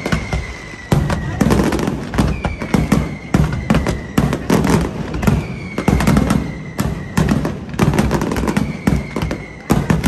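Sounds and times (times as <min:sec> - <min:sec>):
high whistling tone: 0:00.0 - 0:09.7
fireworks bursts and bangs: 0:00.0 - 0:10.0
fireworks crackle: 0:00.0 - 0:10.0.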